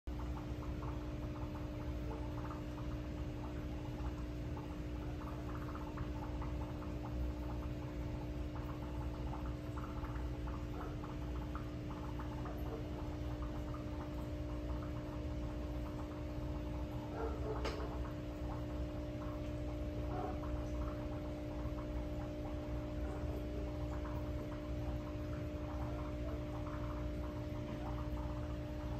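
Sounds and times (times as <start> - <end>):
aquarium pump hum: 0.1 - 28.9
water bubbling and trickling: 0.1 - 28.9.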